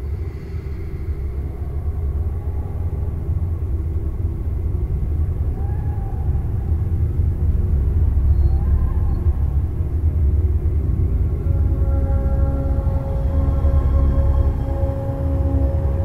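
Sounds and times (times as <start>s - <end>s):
deep low rumble drone: 0.0s - 16.0s
faint wavering tones: 0.0s - 16.0s.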